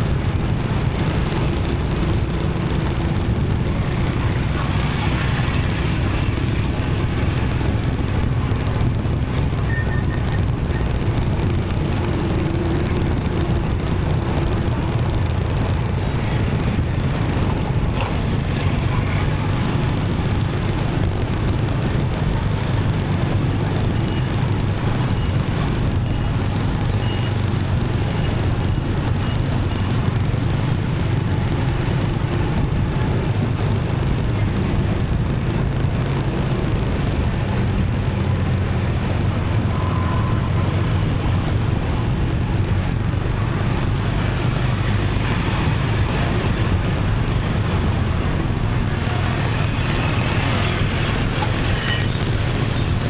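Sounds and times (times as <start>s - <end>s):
motorbike engine and road rumble: 0.0s - 53.0s
surrounding traffic: 0.0s - 53.0s.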